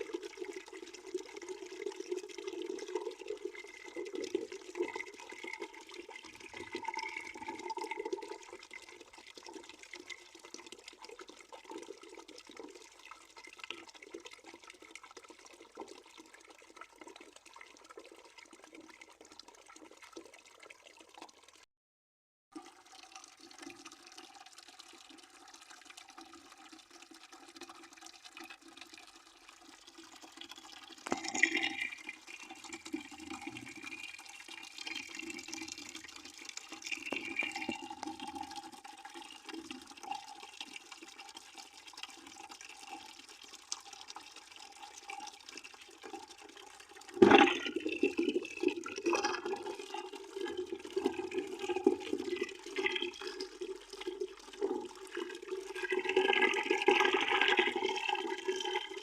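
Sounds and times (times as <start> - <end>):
water pouring into a bucket: 0.0 - 21.7, 22.5 - 59.0.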